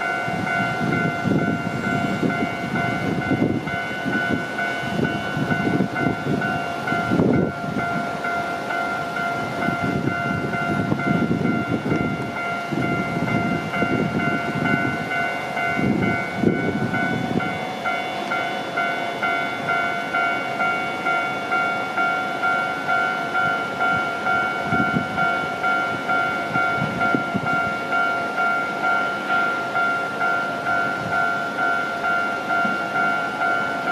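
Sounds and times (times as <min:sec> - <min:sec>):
level crossing alarm bell: 0:00.0 - 0:33.9
train rumbling past: 0:00.0 - 0:33.9.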